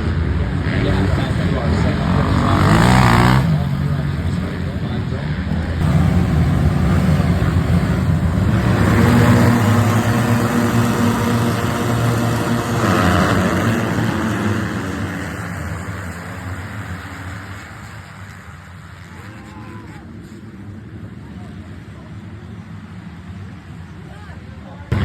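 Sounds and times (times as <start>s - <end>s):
dirt bike engines revving: 0.0s - 23.8s.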